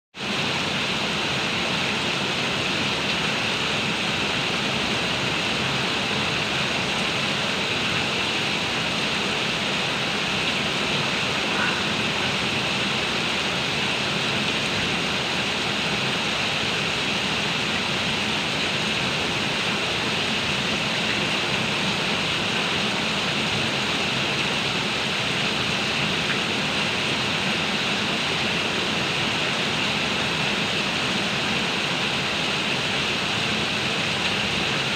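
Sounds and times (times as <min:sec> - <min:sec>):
heavy rain pouring: 0:00.2 - 0:34.9.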